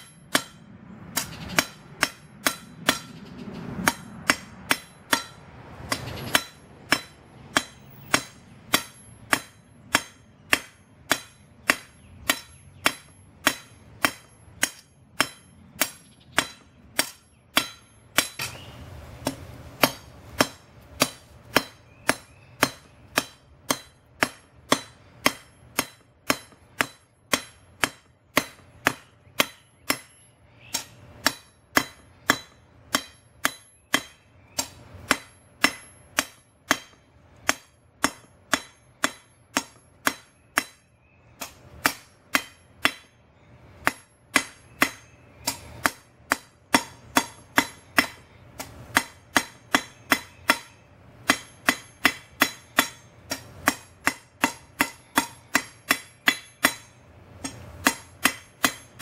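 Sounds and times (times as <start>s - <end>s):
hammer striking steel on anvil: 0.0s - 43.2s, 43.8s - 59.0s.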